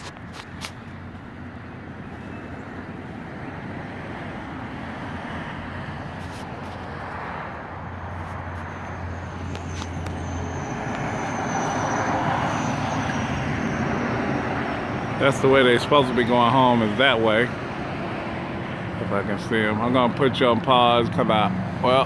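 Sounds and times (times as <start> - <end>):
low engine hum: 0.0 - 22.0
road traffic going by: 0.0 - 22.0.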